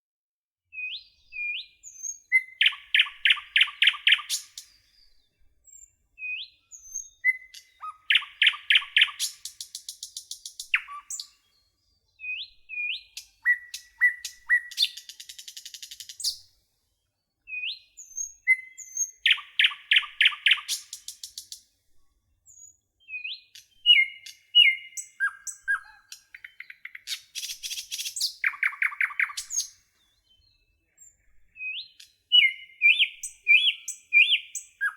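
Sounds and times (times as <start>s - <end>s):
nightingale singing: 0.7s - 16.5s, 17.4s - 21.6s, 22.5s - 34.9s.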